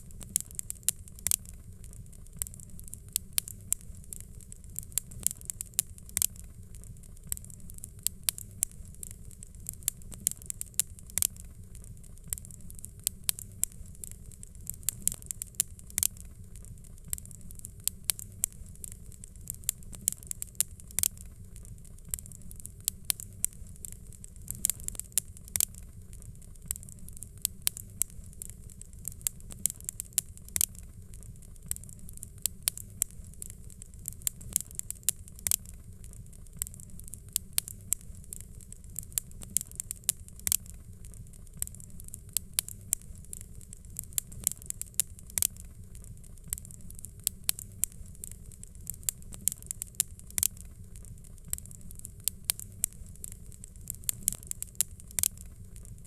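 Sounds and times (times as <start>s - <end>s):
low rumble and soft hiss: 0.0s - 56.0s
wood fire crackling: 0.0s - 56.0s.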